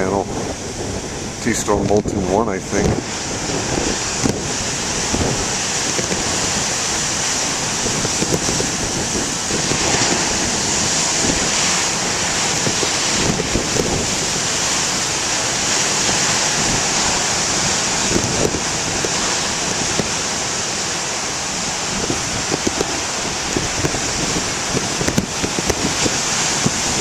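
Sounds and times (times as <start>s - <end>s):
ocean waves breaking: 0.0s - 27.0s
wind on microphone: 0.0s - 27.0s.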